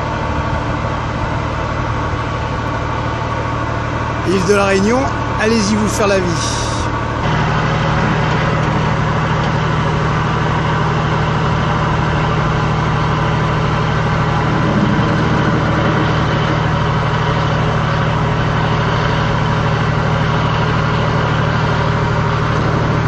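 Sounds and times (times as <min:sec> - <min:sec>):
heavy engine idling: 0:00.0 - 0:23.0.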